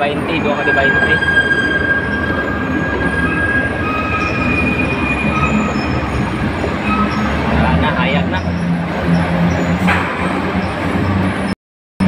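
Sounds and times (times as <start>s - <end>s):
high metallic squeals: 0.0s - 11.5s
truck rumbling: 0.0s - 11.6s.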